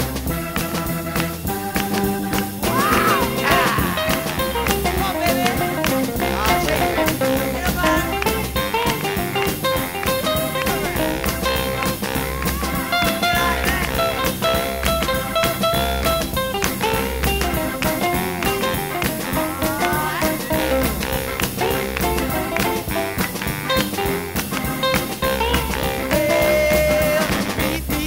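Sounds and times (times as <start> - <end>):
instrumental music with steady beat: 0.0 - 28.0.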